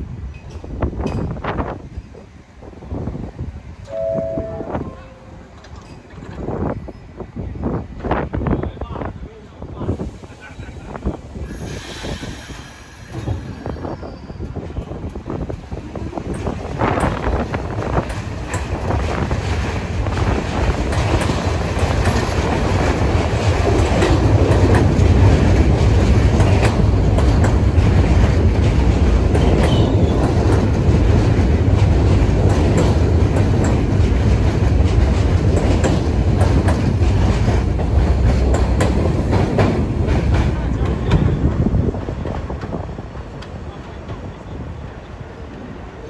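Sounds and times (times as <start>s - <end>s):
subway train wheels clacking: 0.0s - 46.0s.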